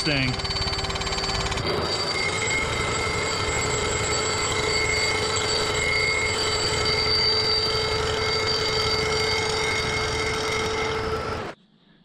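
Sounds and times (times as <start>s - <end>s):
milling machine cutting metal: 0.0s - 11.6s.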